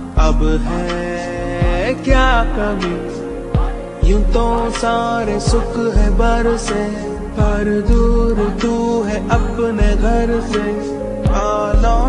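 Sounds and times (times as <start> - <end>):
held chords: 0.0 - 12.0
melody with pitch bends: 0.0 - 12.0.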